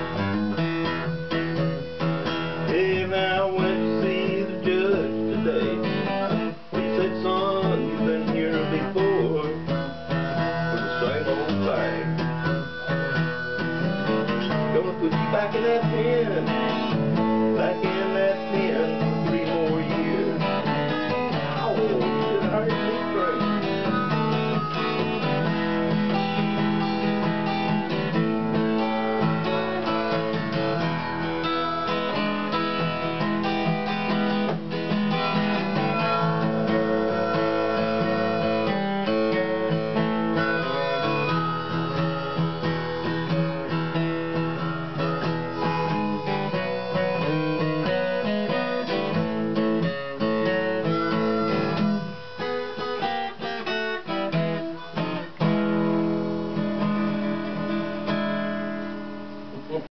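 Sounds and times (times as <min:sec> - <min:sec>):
acoustic guitar blues: 0:00.0 - 0:59.9.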